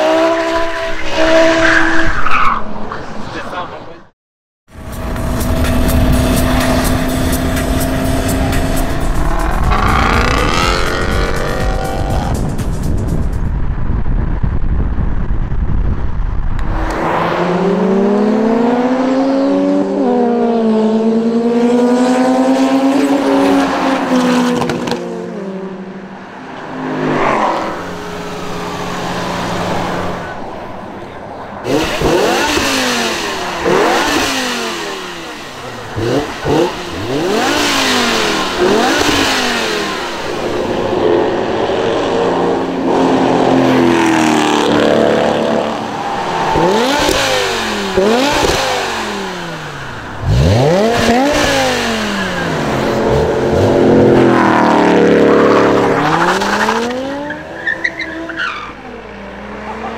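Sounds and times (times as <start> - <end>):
car engine revving: 4.7 - 12.8, 16.6 - 59.9.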